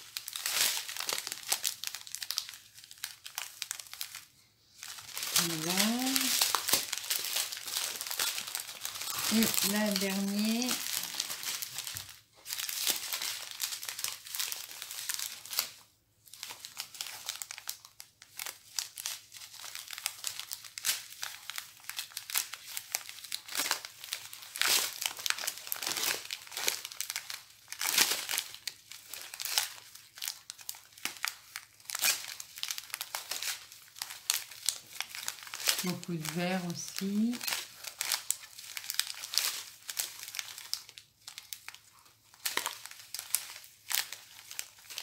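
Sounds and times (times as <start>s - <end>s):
plastic bags crinkling: 0.0s - 45.0s.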